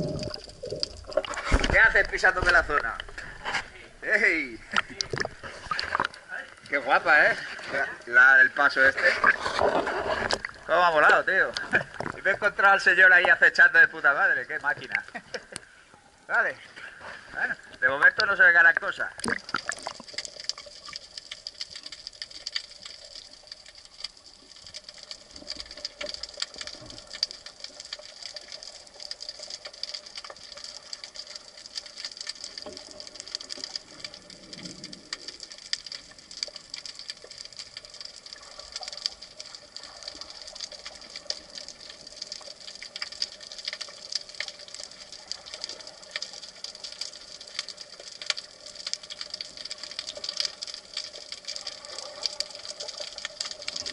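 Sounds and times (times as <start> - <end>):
dense crackle of tiny clicks: 0.0 - 53.9.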